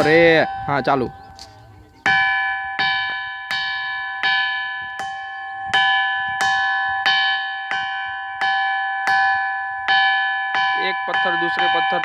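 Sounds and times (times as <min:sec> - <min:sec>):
rock struck with stone ringing: 0:00.0 - 0:12.0.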